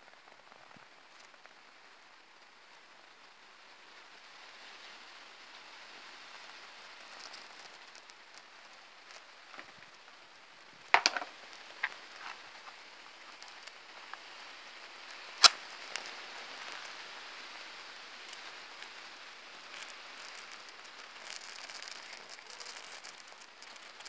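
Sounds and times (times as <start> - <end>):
sharp fire clicks and snaps: 0.0 - 2.9, 6.2 - 24.0
flames crackling hiss: 0.0 - 24.0.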